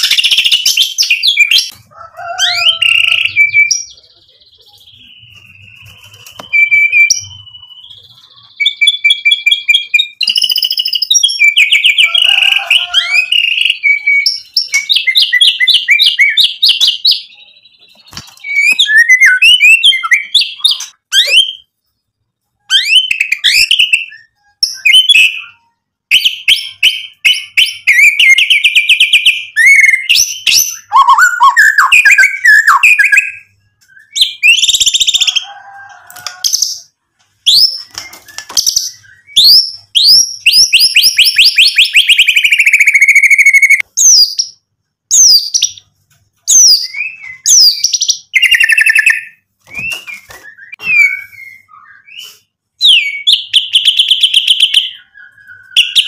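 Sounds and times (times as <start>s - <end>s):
songbird singing trills and whistles: 0.0s - 1.8s, 2.4s - 21.8s, 22.6s - 35.4s, 36.5s - 45.9s, 46.5s - 56.0s.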